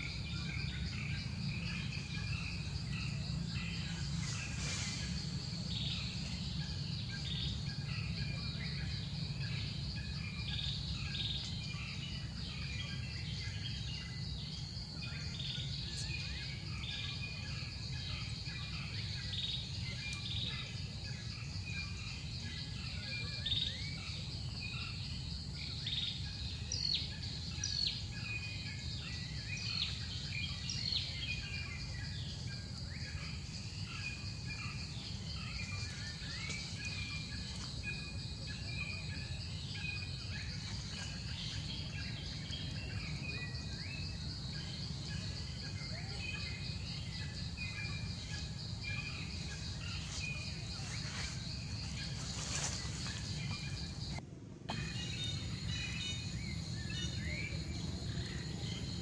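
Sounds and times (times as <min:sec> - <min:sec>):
birds chirping: 0:00.0 - 0:59.0
high insect drone: 0:00.0 - 0:59.0.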